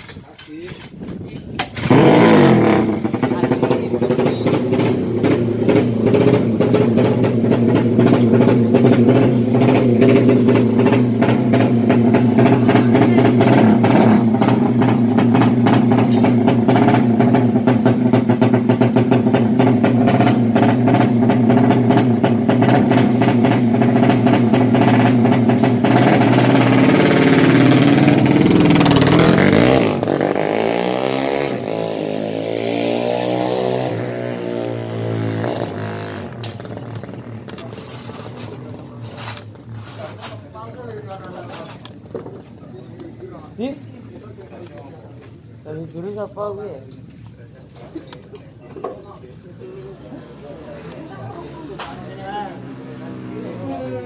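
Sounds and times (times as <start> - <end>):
motorcycle engine revving: 0.9 - 54.0.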